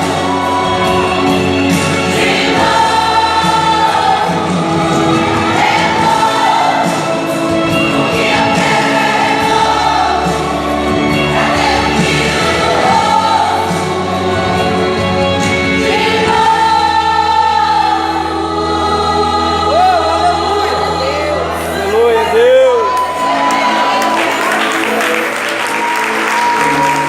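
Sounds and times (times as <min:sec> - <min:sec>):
bass accompaniment: 0:00.0 - 0:27.0
gospel choir singing: 0:00.0 - 0:27.0.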